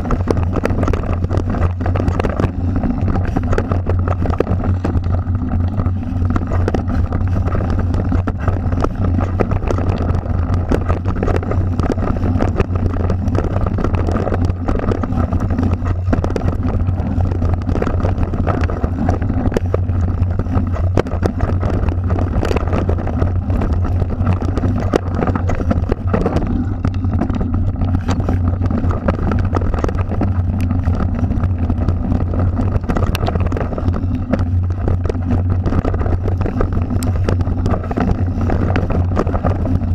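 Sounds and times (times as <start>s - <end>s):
bike rattling and clattering: 0.0s - 39.9s
wind rumble on microphone: 0.0s - 39.9s.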